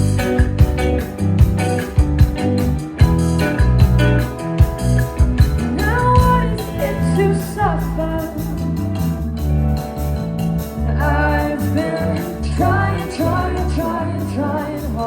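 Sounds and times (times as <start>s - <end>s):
sliding high guitar notes: 0.0s - 14.1s
rock band playing live: 0.0s - 15.0s.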